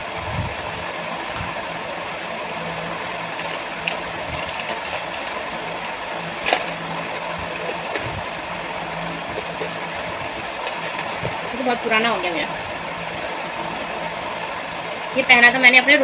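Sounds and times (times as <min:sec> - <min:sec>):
mechanical whir with hum: 0:00.0 - 0:16.0.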